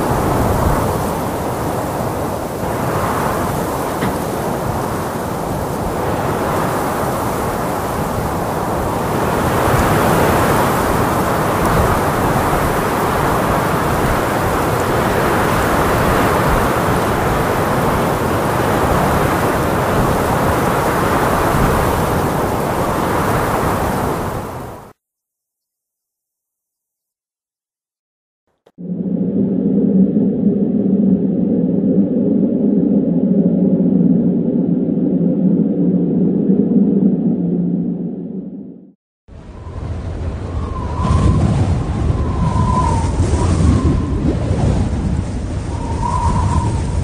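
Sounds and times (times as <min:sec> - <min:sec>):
strong wind blowing: 0:00.0 - 0:24.9, 0:28.8 - 0:47.0.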